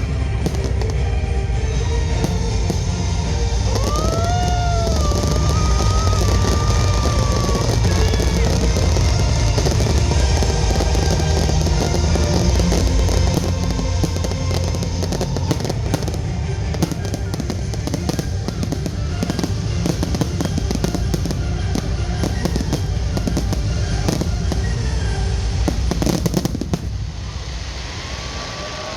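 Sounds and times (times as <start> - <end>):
music: 0.0 - 27.5
fireworks crackling and popping: 0.0 - 28.9.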